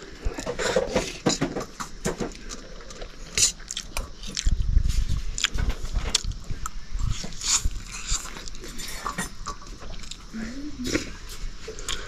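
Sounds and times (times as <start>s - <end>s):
eating noises: 0.0s - 12.0s.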